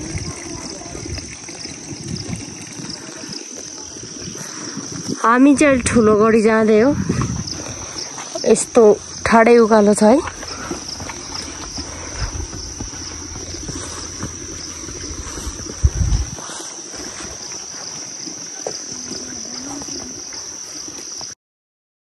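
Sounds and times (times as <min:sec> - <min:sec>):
insects chirring: 0:00.0 - 0:21.4.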